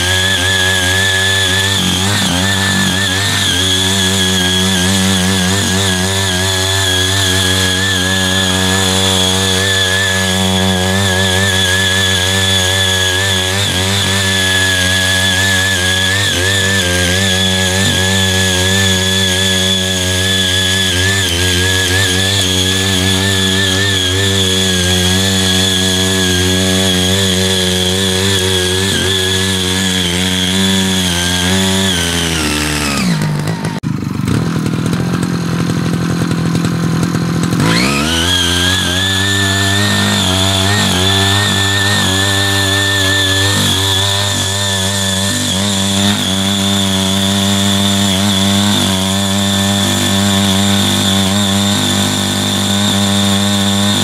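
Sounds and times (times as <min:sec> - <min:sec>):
small tiller engine running: 0:00.0 - 0:54.0
tines churning soil: 0:00.0 - 0:54.0.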